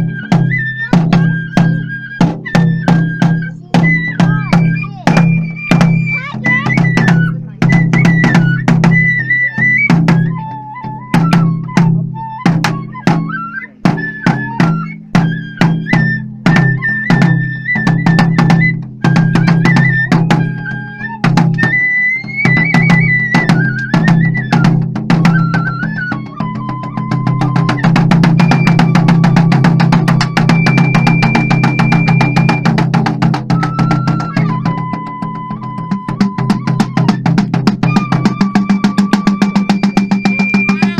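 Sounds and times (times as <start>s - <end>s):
high flute melody: 0.0s - 40.9s
taiko drum rhythm: 0.0s - 40.9s.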